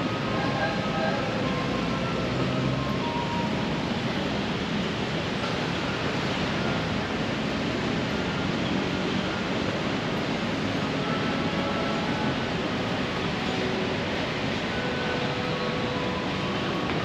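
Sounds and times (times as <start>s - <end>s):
city traffic rush: 0.0s - 17.0s.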